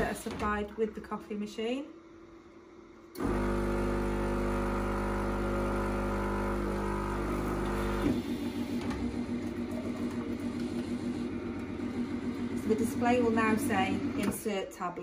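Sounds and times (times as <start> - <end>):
coffee machine motor humming: 2.4 - 14.4.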